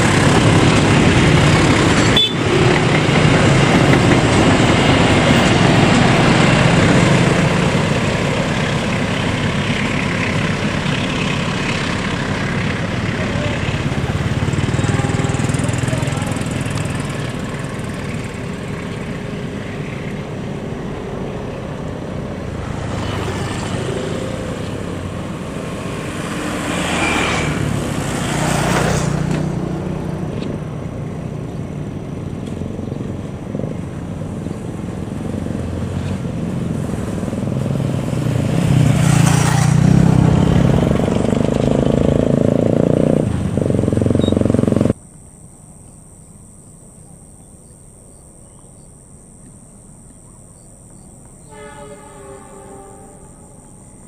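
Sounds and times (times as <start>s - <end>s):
train coaches rolling past: 0.0s - 44.3s, 49.7s - 54.0s
motorcycle: 0.0s - 47.8s
road traffic noise: 0.0s - 54.0s.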